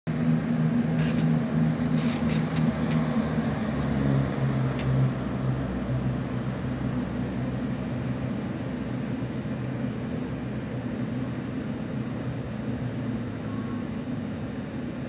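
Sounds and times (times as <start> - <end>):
train diesel engines droning: 0.1 - 15.0.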